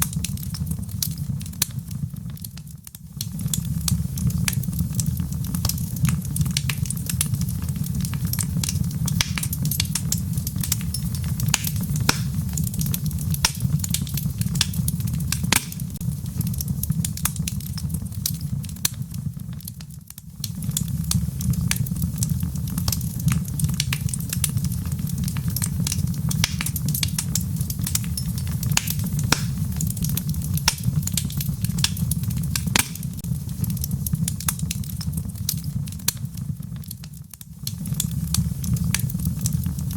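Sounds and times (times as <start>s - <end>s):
rain pattering: 0.0s - 39.9s
wood fire crackling: 0.0s - 39.9s.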